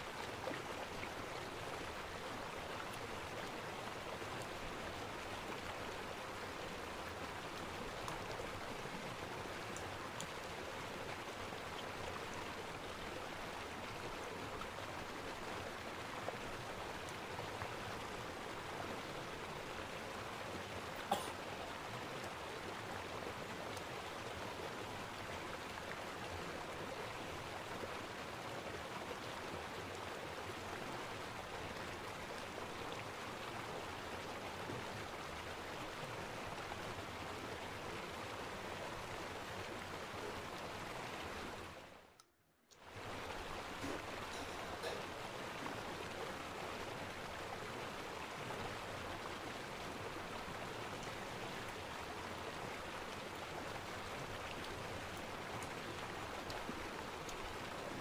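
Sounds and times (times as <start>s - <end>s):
steady hiss-like noise: 0.0s - 42.2s, 42.8s - 58.0s.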